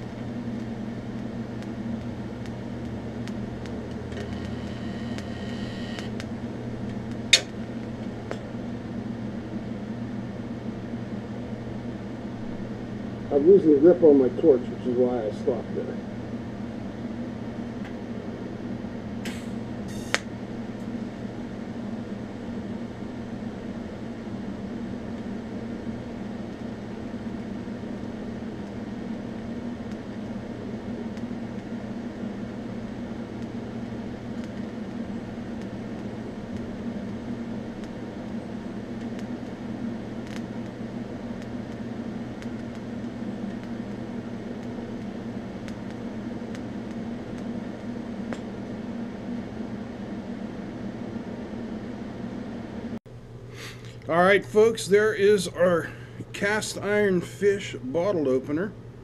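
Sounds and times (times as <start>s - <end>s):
welder electrical hum: 0.0s - 59.0s.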